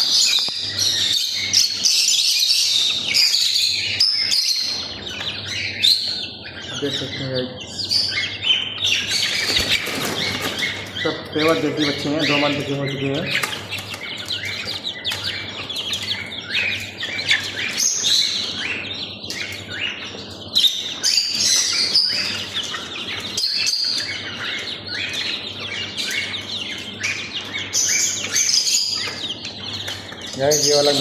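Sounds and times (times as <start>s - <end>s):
chicks peeping and chirping: 0.0s - 31.0s.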